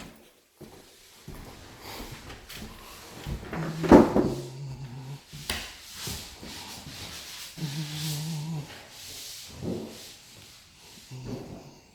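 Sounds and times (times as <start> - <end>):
drywall sanding by hand: 1.3 - 11.9.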